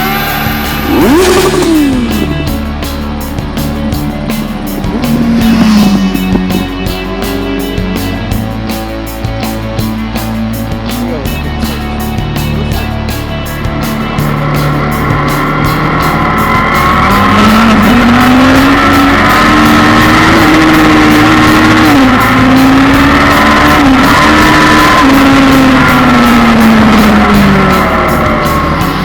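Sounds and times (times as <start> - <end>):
motorcycle engine revving high: 0.0 - 29.0
rock music: 0.0 - 29.0.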